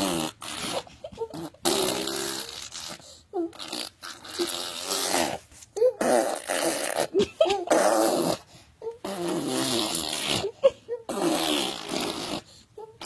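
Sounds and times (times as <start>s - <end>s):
baby blowing raspberries: 0.0s - 7.1s, 7.7s - 10.5s, 11.1s - 12.6s.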